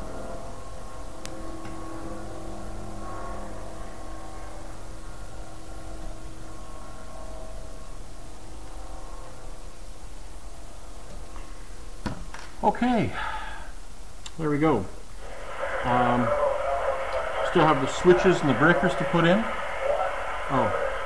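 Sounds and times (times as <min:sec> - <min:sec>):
propeller airplane engine droning: 0:00.0 - 0:12.0, 0:15.0 - 0:21.0.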